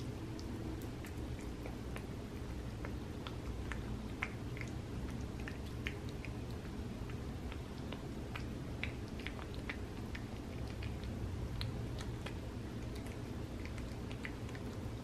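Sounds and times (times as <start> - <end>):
cat chewing: 0.0 - 15.0
steady low hum: 0.0 - 15.0.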